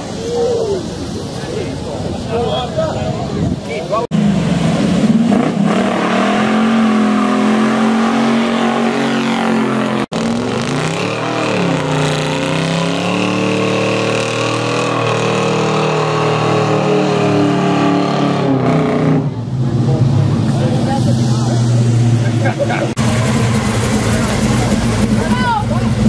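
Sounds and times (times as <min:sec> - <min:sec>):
car engine at high revs: 0:04.1 - 0:26.0.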